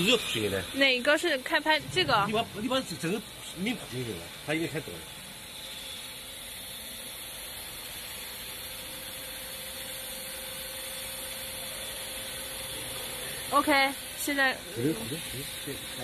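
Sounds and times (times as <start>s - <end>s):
lathe running: 0.0s - 16.0s.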